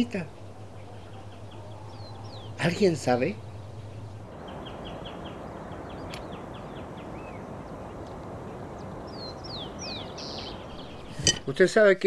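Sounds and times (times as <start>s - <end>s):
small bird chirping: 0.0s - 11.4s
outdoor background noise: 0.0s - 12.0s.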